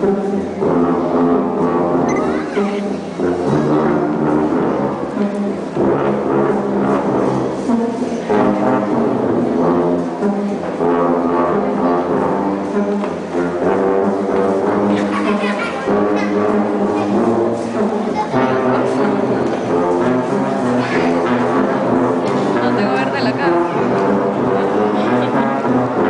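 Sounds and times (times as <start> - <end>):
marching band tubas and brass: 0.0 - 26.0.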